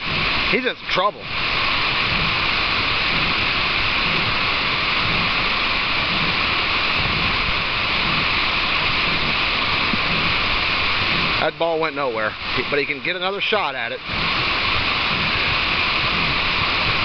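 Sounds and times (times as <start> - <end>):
rush of falling water: 0.0 - 17.0.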